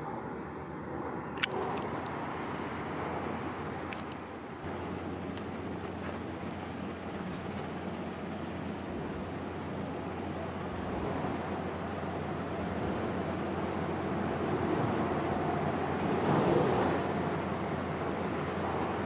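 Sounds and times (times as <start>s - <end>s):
sea waves: 1.0s - 19.0s.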